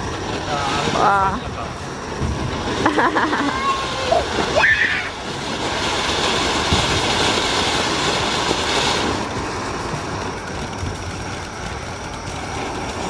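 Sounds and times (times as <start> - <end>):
fireworks hissing sparks: 0.0 - 13.0.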